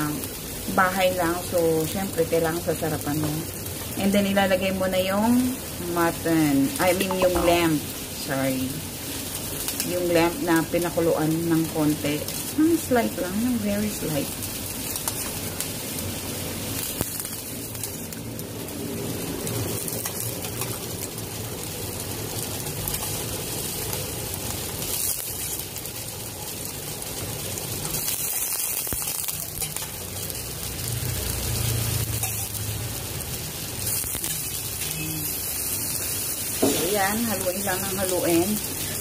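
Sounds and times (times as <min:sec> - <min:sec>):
meat sizzling in a pan: 0:00.0 - 0:39.0.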